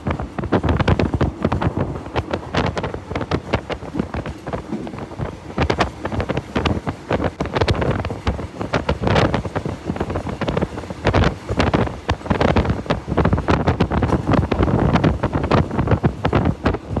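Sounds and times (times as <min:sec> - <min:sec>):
moving train: 0:00.0 - 0:17.0
wind buffeting microphone: 0:00.0 - 0:17.0.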